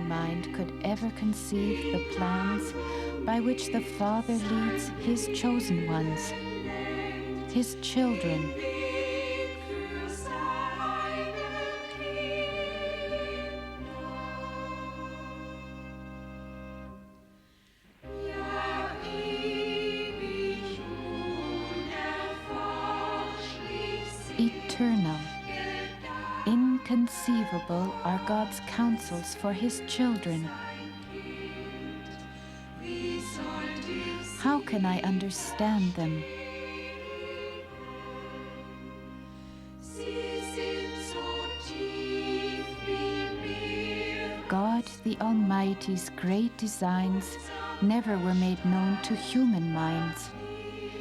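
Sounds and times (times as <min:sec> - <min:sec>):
choir singing with orchestra: 0:00.0 - 0:51.0
instrumental accompaniment: 0:00.0 - 0:51.0
orchestral string chord: 0:00.0 - 0:51.0.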